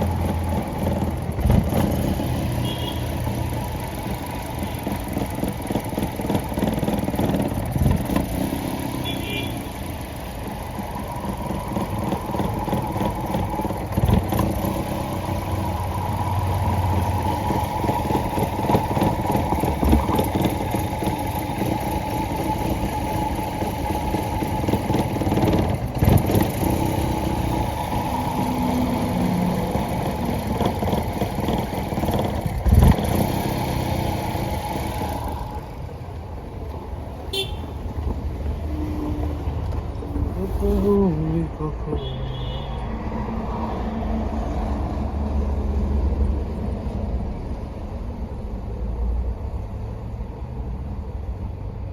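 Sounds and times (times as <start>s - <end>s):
car engine misfiring: 0.0s - 42.1s.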